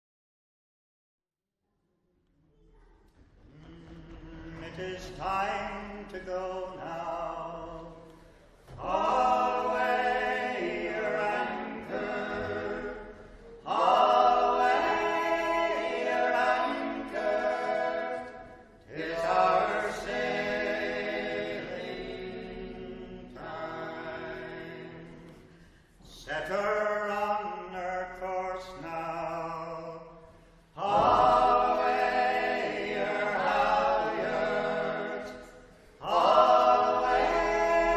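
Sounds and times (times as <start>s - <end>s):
group singing unaccompanied: 3.6s - 30.2s, 30.8s - 37.9s.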